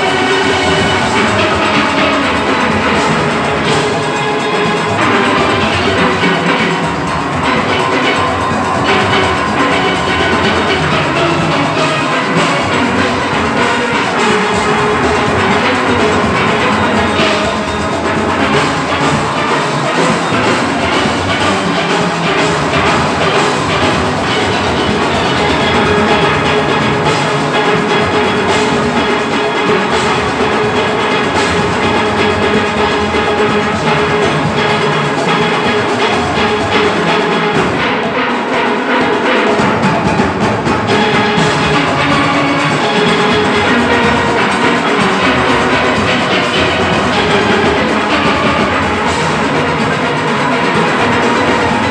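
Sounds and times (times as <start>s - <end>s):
percussion steady rhythm: 0.0s - 51.9s
steelpans playing fast melody: 0.0s - 51.9s.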